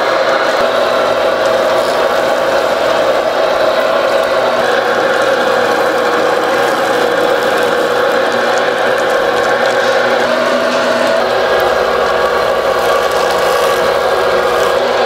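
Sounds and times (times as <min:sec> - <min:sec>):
fish skinning machine whirring: 0:00.0 - 0:15.0.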